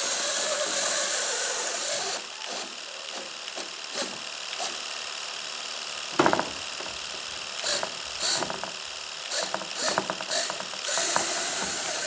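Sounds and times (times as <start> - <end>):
motor running with high hiss: 0.0 - 12.0.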